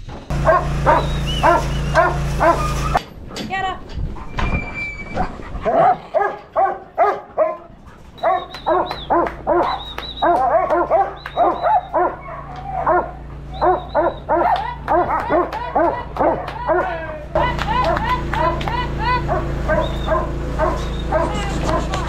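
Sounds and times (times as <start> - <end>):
dog barking rapidly: 0.3 - 3.0, 5.3 - 22.0.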